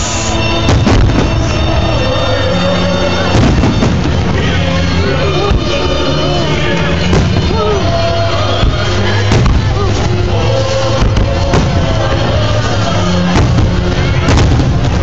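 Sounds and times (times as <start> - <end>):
fireworks bursting with bangs: 0.0 - 15.0.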